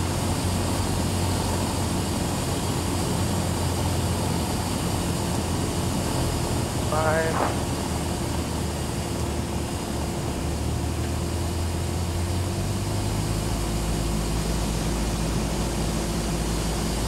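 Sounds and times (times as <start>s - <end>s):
aircraft engine and propeller droning: 0.0s - 17.0s.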